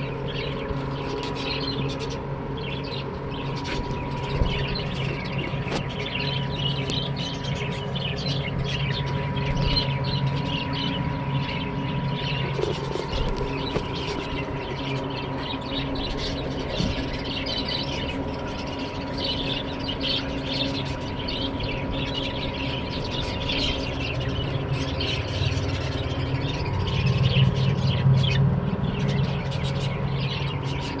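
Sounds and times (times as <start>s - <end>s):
budgerigars chirping and squawking: 0.0s - 31.0s
low hum: 0.0s - 31.0s.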